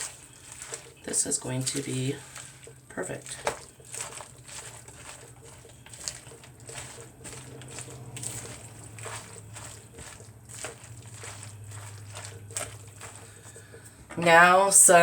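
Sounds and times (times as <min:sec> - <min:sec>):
kitchen utensils clicking and scraping: 0:00.0 - 0:15.0.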